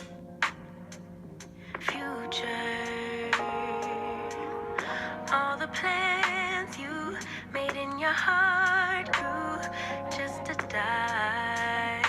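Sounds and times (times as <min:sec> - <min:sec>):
soft sustained instrumental music: 0:00.0 - 0:12.0.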